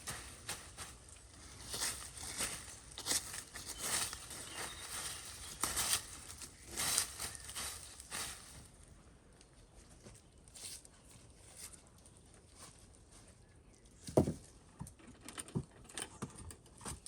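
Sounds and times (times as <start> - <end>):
crunching of dry forest litter: 0.0 - 14.0.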